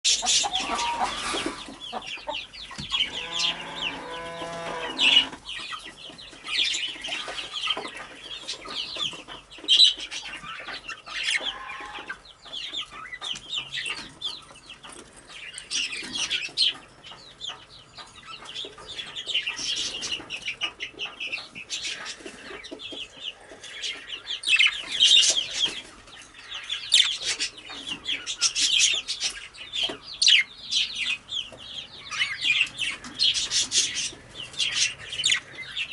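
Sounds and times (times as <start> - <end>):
budgerigars chattering and chirping: 0.1 - 35.9.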